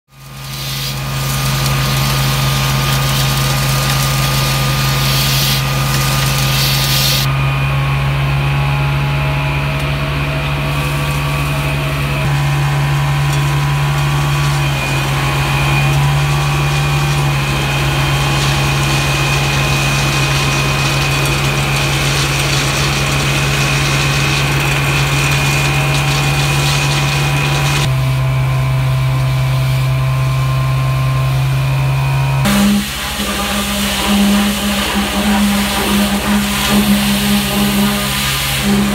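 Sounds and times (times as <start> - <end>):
truck engine and vacuum blower drone: 0.1 - 38.9.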